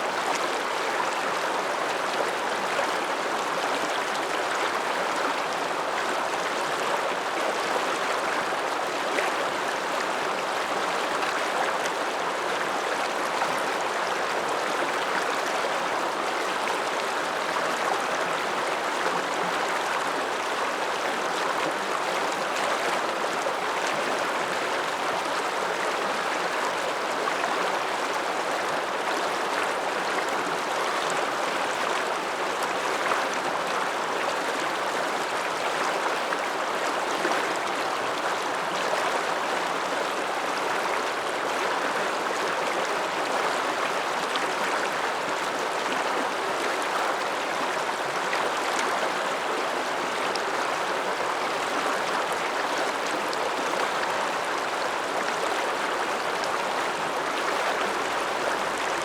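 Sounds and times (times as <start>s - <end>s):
mountain river rushing: 0.0s - 59.0s.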